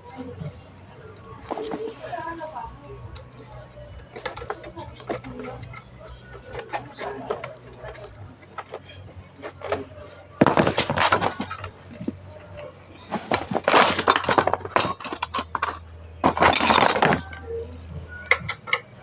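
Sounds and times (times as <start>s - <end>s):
hard parts clinking and rattling: 0.0s - 19.0s.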